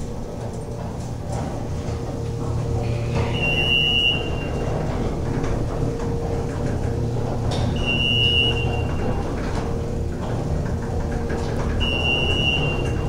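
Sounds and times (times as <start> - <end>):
elevator humming and rumbling: 0.0 - 13.0.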